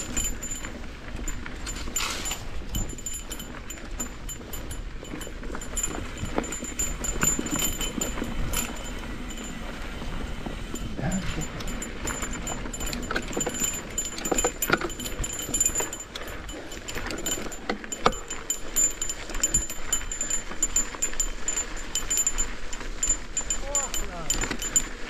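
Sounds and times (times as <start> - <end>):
bike chain rattling and clicking: 0.0 - 25.0
tyres rolling on dirt: 0.0 - 25.0.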